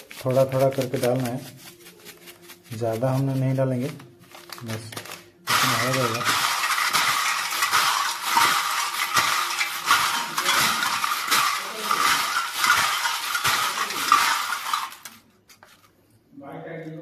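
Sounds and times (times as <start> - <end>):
chips rattling in metal bowl: 0.0 - 15.3.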